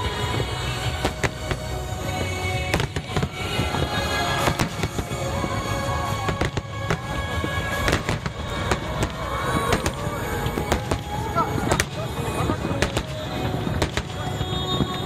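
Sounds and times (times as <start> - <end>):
fireworks bangs and crackles: 0.0 - 15.0
music: 0.0 - 15.0.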